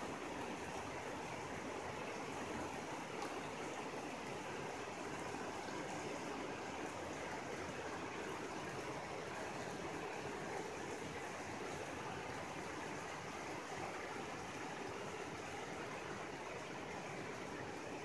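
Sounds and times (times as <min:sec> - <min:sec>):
rain pouring on roofs and street: 0:00.0 - 0:18.0.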